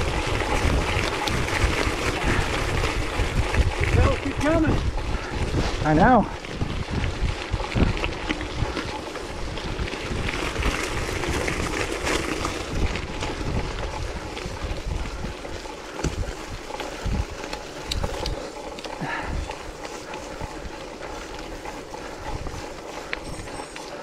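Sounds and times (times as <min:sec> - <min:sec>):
wind buffeting microphone: 0:00.0 - 0:23.6
bike knocks and rattles: 0:00.0 - 0:24.0
bike rolling on muddy trail: 0:00.0 - 0:24.0.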